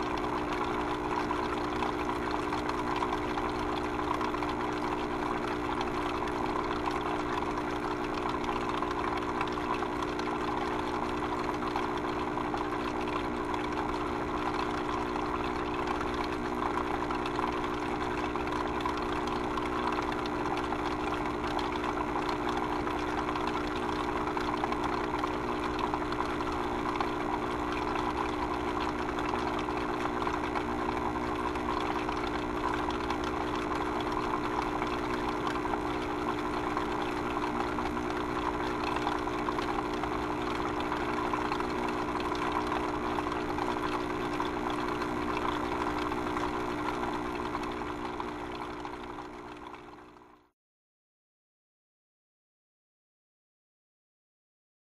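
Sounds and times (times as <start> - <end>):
steady mechanical hum: 0.0 - 50.5.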